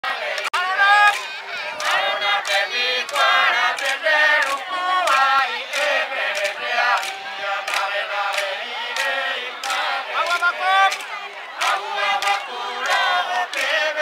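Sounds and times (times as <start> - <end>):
group chanting a song: 0.0 - 14.0.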